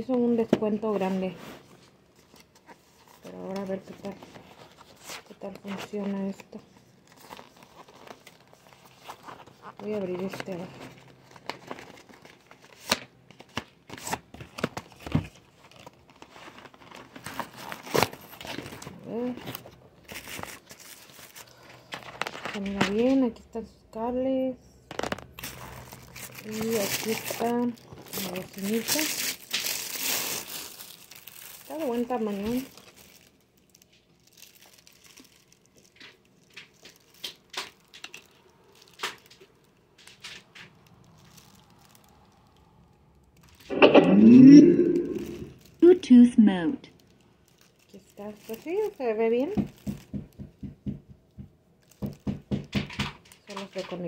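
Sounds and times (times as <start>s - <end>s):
cardboard and packaging rustling: 0.0s - 23.4s, 24.9s - 43.8s, 44.9s - 46.2s, 47.0s - 51.0s, 51.8s - 54.0s.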